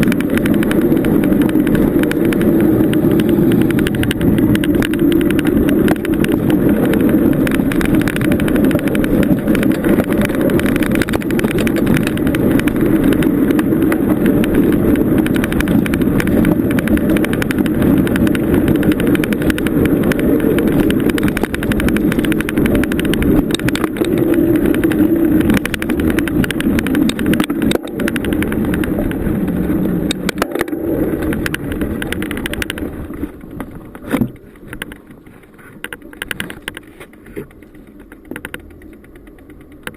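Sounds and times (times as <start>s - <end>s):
bicycle rolling on dirt trail: 0.0s - 39.9s.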